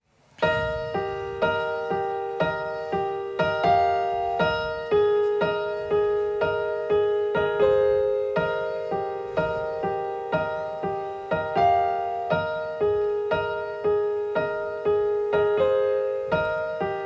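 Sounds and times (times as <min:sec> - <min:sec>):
piano chords: 0:00.1 - 0:17.0.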